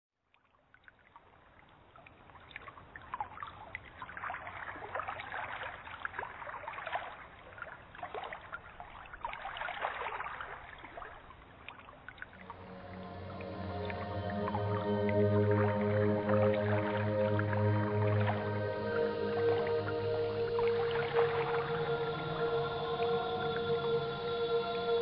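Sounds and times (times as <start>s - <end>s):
water trickling and splashing: 0.3s - 23.6s.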